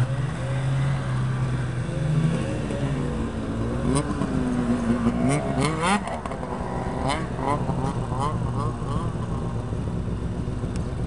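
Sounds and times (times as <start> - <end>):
engine revving: 0.0 - 9.6
snowmobile engines idling and blipping: 0.0 - 11.0.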